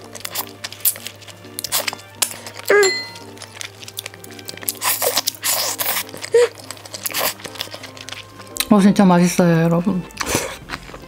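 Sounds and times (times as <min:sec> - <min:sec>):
crunchy bites and chewing: 0:00.0 - 0:08.7, 0:10.0 - 0:11.0
soft background music: 0:00.0 - 0:11.0.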